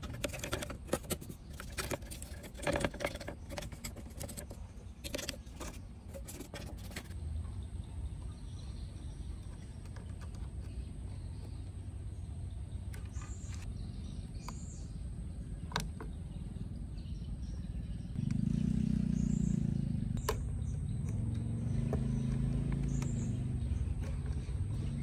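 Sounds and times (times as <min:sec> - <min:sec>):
vehicle engine running: 0:00.0 - 0:25.0
faint bird chirps: 0:03.1 - 0:25.0.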